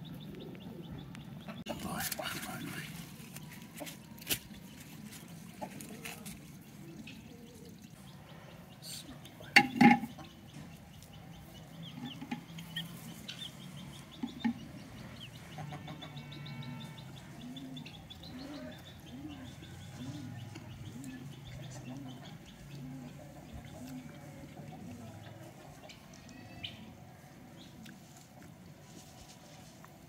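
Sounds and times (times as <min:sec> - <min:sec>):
small birds chirping: 0:00.0 - 0:29.7.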